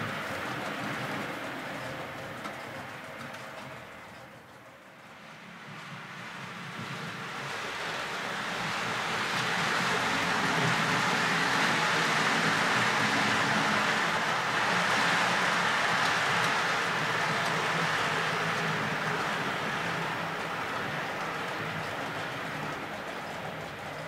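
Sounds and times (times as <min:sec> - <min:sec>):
model train wheels rolling: 0:00.0 - 0:24.0.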